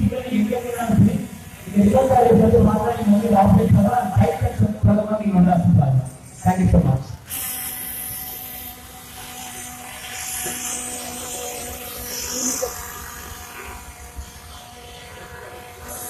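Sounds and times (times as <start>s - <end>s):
remote-control car engines buzzing: 0.0s - 16.0s.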